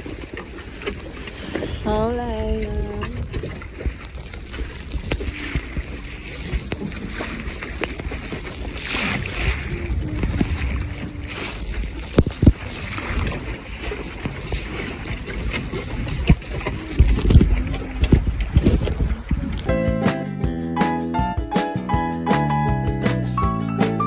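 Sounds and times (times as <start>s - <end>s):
wind buffeting microphone: 0.0s - 19.7s
water splashing against hull: 0.0s - 24.0s.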